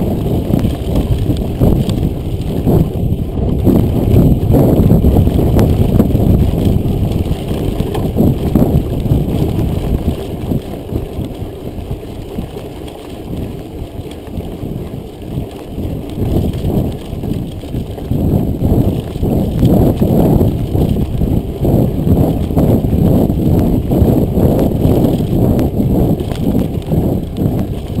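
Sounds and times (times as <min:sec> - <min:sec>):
bike rattling: 0:00.0 - 0:28.0
bike tyres rumbling on gravel: 0:00.0 - 0:28.0
wind buffeting microphone: 0:00.0 - 0:28.0.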